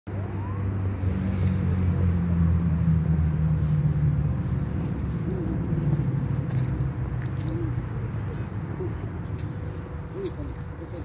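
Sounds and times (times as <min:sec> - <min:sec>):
vehicle engine running: 0:00.1 - 0:11.0.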